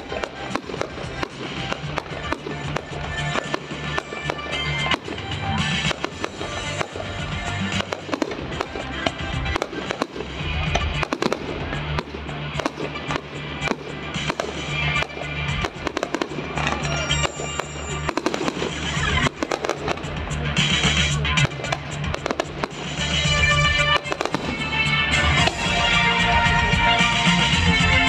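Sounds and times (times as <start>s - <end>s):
fireworks bangs and crackling: 0.0s - 28.0s
music playing: 0.0s - 28.0s.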